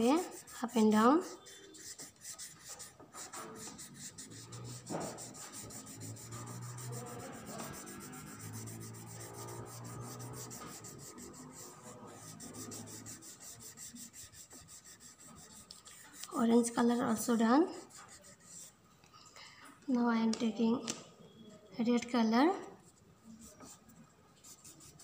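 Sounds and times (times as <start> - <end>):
pastel scratching on paper: 0.0 - 18.8, 23.3 - 25.0.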